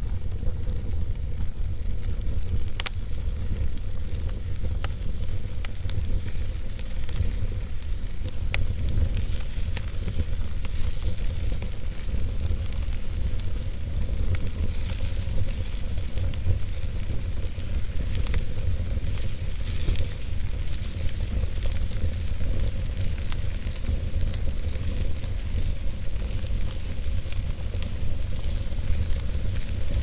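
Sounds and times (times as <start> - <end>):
fire crackling and hissing: 0.0 - 30.0.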